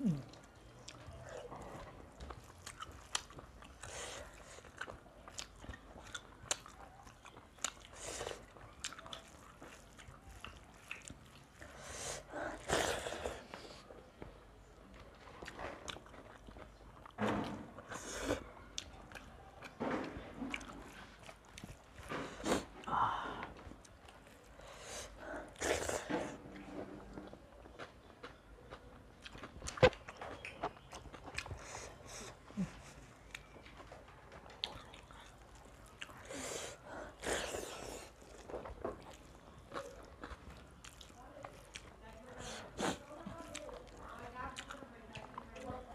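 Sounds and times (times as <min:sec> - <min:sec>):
chewing and biting: 0:00.0 - 0:45.9.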